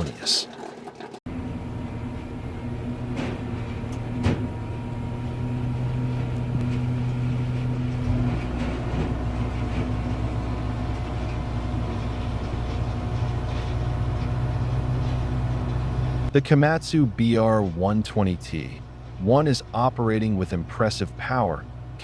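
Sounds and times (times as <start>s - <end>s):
diesel engine running: 1.3s - 22.0s.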